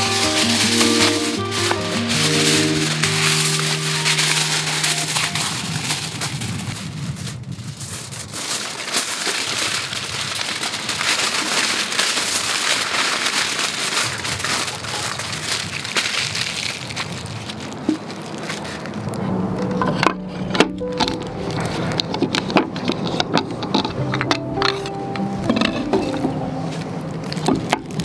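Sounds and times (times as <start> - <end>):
foil crinkling: 0.0 - 28.0.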